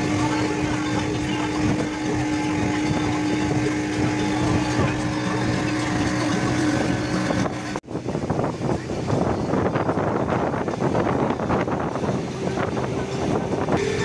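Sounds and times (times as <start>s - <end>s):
outboard motor droning: 0.0s - 14.0s.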